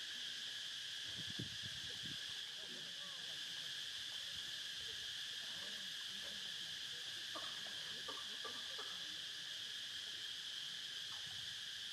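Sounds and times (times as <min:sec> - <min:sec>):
insects chorus: 0:00.0 - 0:11.9.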